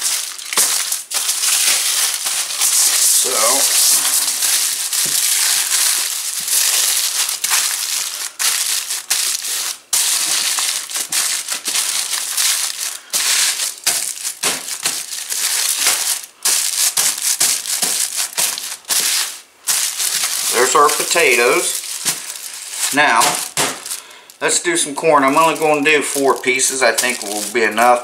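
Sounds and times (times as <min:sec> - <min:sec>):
aluminium foil crinkling: 0:00.0 - 0:28.0.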